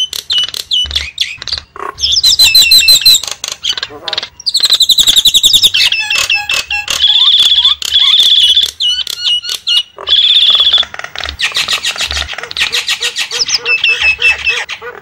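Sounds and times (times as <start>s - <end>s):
mynas calling and chattering: 0.0s - 15.0s.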